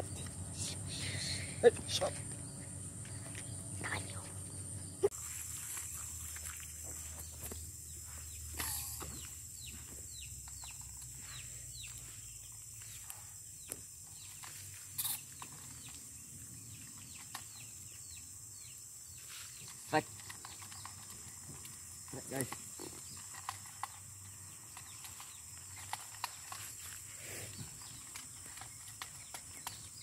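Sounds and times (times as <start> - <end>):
high insect drone: 0.0 - 30.0.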